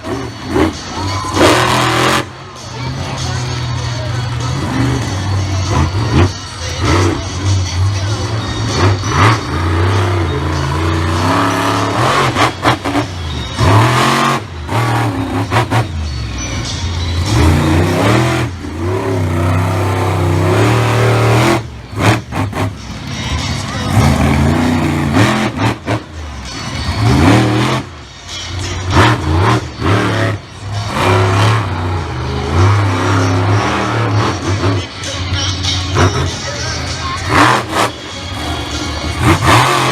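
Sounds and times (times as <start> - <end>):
monster truck engine revving: 0.0 - 39.9.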